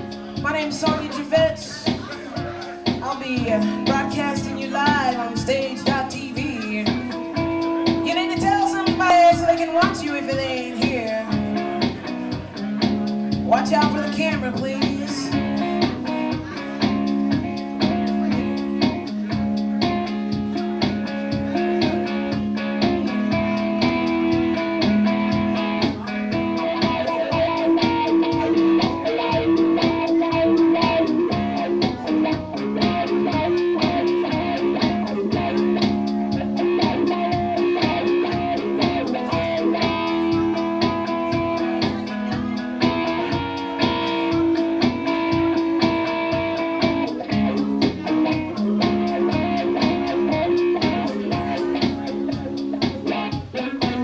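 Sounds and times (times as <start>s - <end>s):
electric guitar notes and chords: 0.0s - 54.0s.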